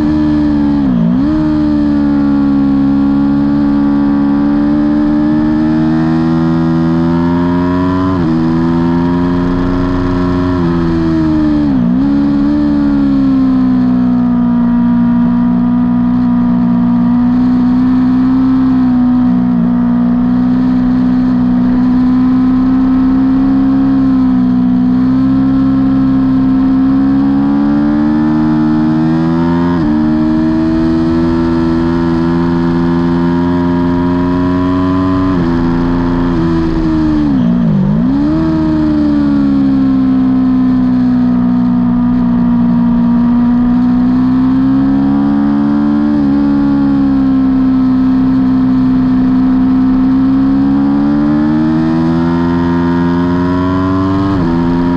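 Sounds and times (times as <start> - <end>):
motorcycle engine revving hard: 0.0 - 54.9.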